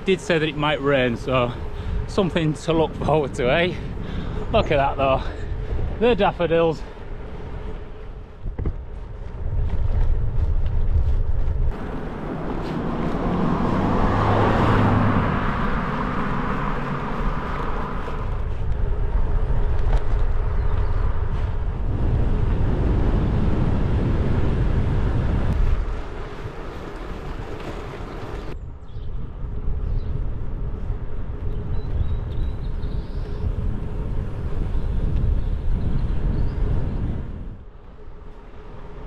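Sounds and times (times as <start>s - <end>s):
bike tyres rolling on tarmac: 0.0s - 39.0s
wind rushing over microphone: 0.0s - 39.0s.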